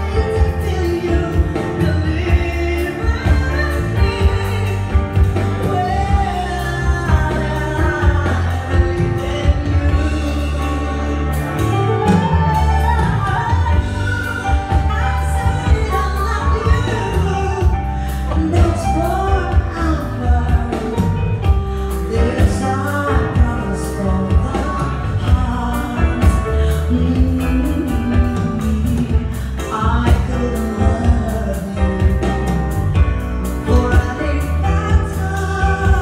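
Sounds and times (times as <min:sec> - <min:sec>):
heavy bass: 0:00.0 - 0:36.0
live band playing: 0:00.0 - 0:36.0
woman singing: 0:00.0 - 0:36.0.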